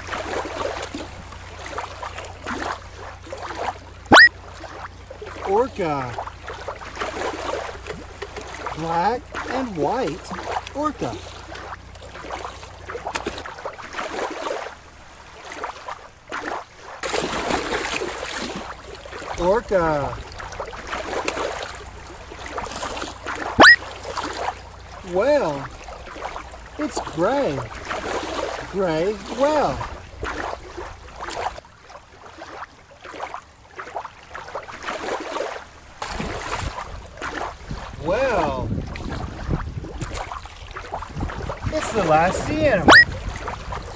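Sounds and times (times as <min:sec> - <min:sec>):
rushing splash of water: 0:00.0 - 0:43.9
water splashing and sloshing: 0:00.0 - 0:43.9.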